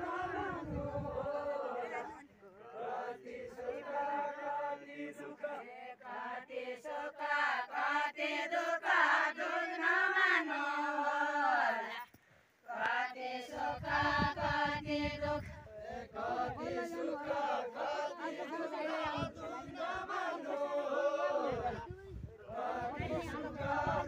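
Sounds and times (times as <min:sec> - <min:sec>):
women singing folk song: 0:00.0 - 0:24.0.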